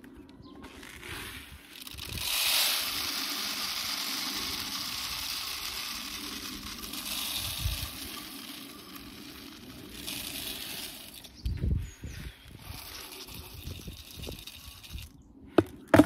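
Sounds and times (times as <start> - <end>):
bird seed pouring: 0.9 - 11.6, 12.4 - 16.0.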